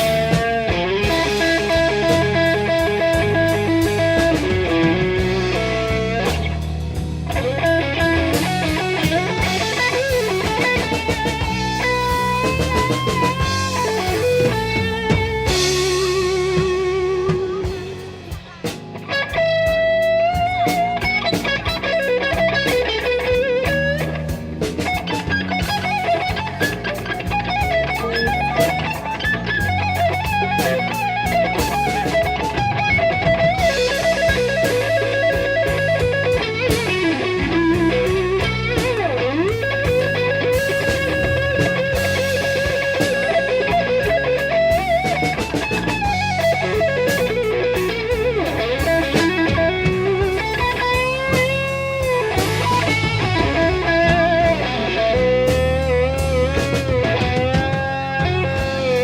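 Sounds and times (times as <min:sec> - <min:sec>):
bass and drums: 0:00.0 - 0:59.0
blues electric guitar solo: 0:00.0 - 0:59.0.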